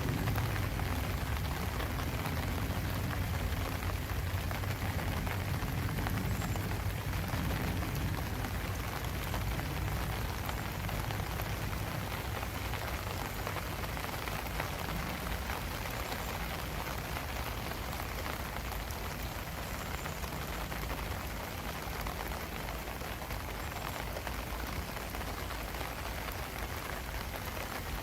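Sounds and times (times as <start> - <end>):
rain drops pattering: 0.0 - 28.0.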